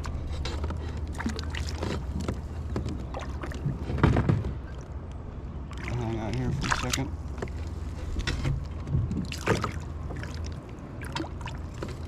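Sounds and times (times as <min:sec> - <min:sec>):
water splashing and sloshing: 0:00.0 - 0:12.0
wind rumble on microphone: 0:01.8 - 0:12.0.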